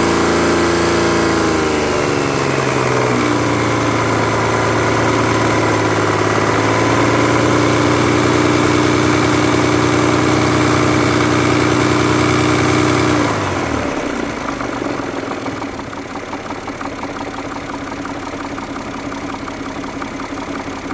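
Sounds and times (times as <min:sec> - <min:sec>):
car engine revving and idling: 0:00.0 - 0:20.9
fine regular engine ticking: 0:00.0 - 0:20.9.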